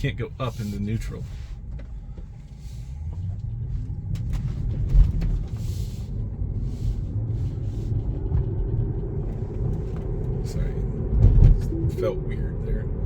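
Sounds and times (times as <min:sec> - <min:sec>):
low vehicle rumble in cabin: 0:00.0 - 0:13.0.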